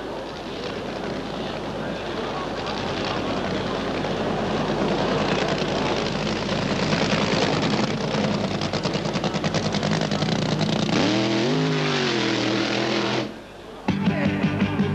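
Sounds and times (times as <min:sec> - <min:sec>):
drag racing engine crackling: 0:00.0 - 0:13.5.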